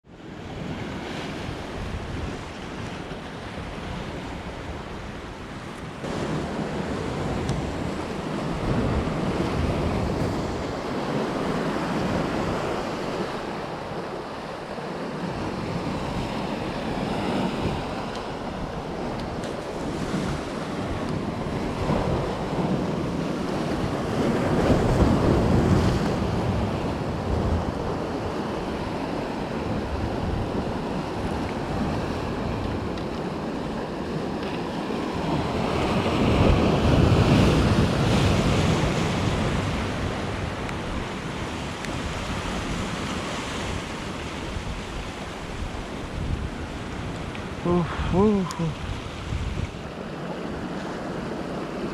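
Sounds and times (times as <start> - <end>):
sea surf washing in: 0.1 - 51.9
wind rumbling on microphone: 0.2 - 51.9.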